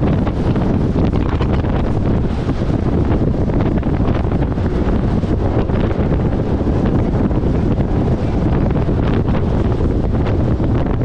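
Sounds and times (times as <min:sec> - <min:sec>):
water rushing off hull: 0:00.0 - 0:11.0
wind buffeting microphone: 0:00.0 - 0:11.0.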